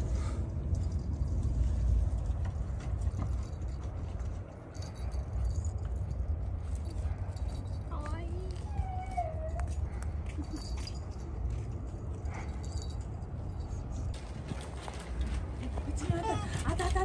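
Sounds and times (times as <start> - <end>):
light clicks and jingles: 0.0 - 17.0.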